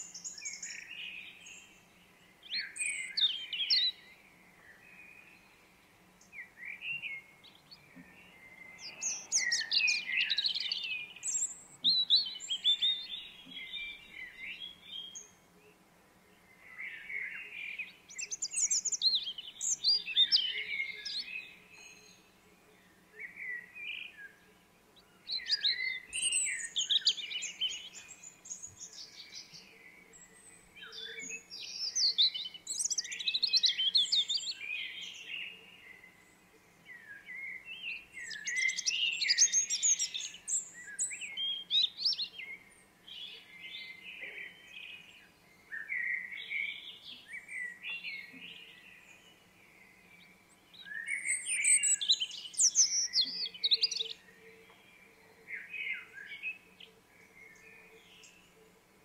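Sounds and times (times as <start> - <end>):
birds chirping and singing: 0.0 - 15.8, 16.4 - 58.8.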